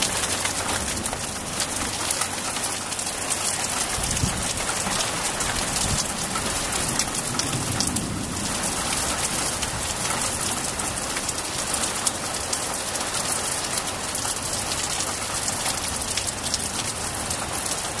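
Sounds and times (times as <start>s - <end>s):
rain hiss: 0.0s - 18.0s
raindrops ticking on surfaces: 0.0s - 18.0s.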